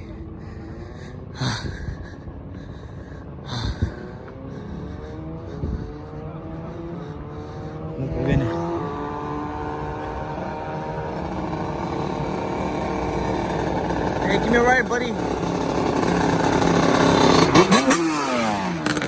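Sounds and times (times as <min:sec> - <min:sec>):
vehicle engine accelerating: 0:02.0 - 0:19.0.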